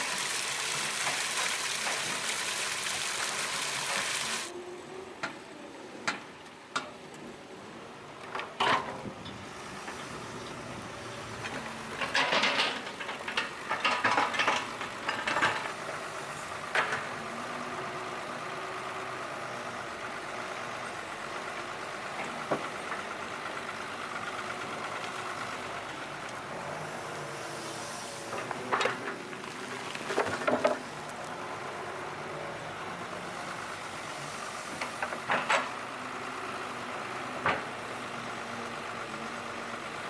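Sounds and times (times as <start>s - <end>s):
excavator engine running: 7.2s - 40.0s.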